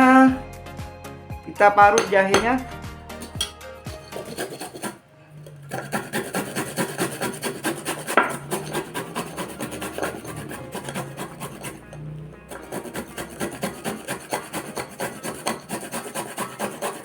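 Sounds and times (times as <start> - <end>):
ginger being grated: 3.1 - 17.0.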